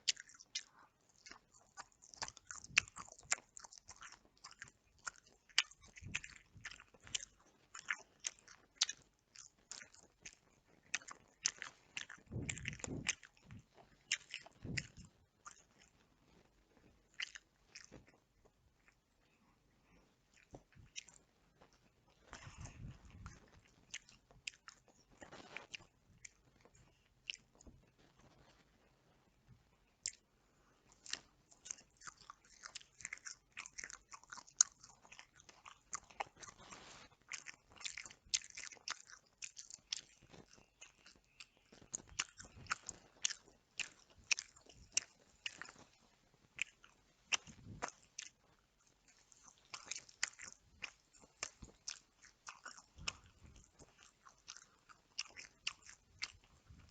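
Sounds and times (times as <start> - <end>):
chewing and biting: 0.0 - 56.9.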